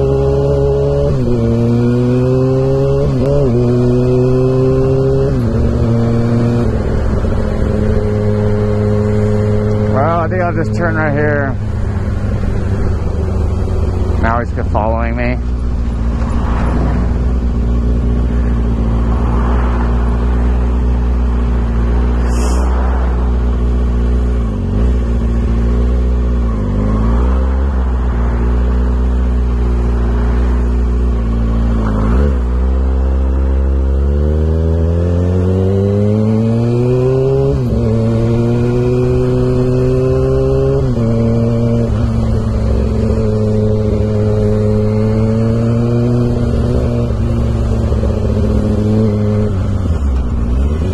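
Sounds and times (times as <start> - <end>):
loud motorcycle engine revving: 0.0 - 50.9.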